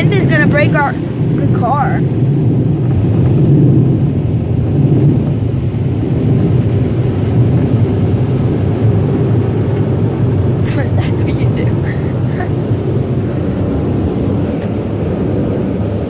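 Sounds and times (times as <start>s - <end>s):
car wash air dryers blowing: 0.0s - 16.0s.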